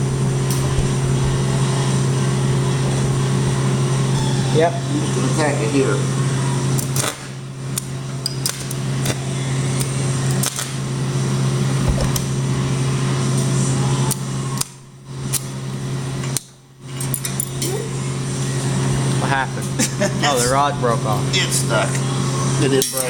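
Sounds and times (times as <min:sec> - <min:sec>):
arc welding crackling and hissing: 0:00.0 - 0:23.0
steady hum: 0:00.0 - 0:23.0.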